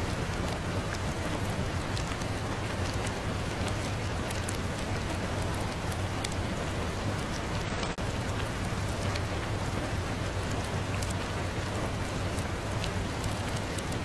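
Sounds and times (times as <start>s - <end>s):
rain ticks: 0.0s - 14.0s
steady rain: 0.0s - 14.0s.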